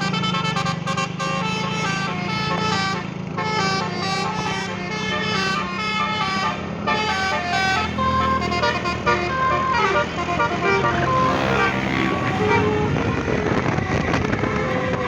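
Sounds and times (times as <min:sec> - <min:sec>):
bus engine drone: 0:00.0 - 0:15.0
musical bus horn melody: 0:00.0 - 0:15.0.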